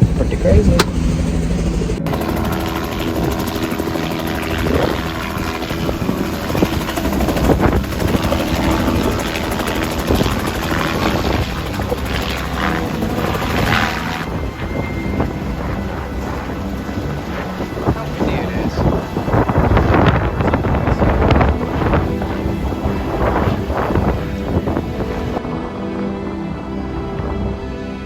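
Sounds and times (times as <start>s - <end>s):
helicopter rotor drone: 0.0s - 28.0s.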